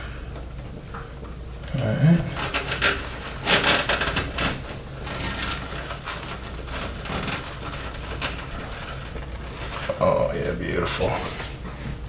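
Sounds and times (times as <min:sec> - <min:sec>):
steady low hum: 0:00.0 - 0:12.0
cables rustling and rubbing: 0:00.4 - 0:12.0.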